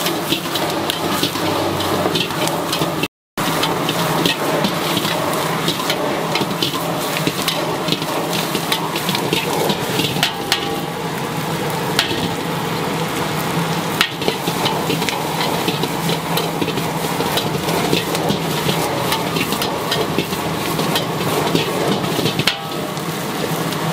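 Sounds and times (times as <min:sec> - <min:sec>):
metal ladle clanking on wok: 0:00.0 - 0:11.1, 0:11.9 - 0:12.5, 0:13.9 - 0:23.6
prawns sizzling in a wok: 0:00.0 - 0:23.9.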